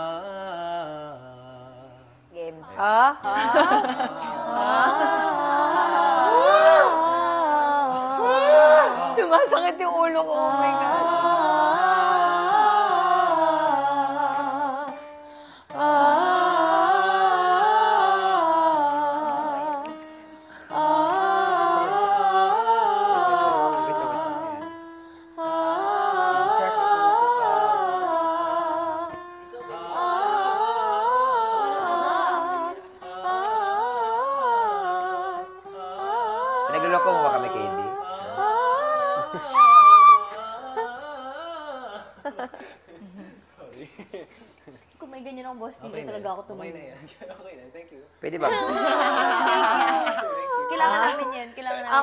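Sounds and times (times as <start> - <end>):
voices humming a cappella: 0.0 - 43.4, 48.4 - 52.0.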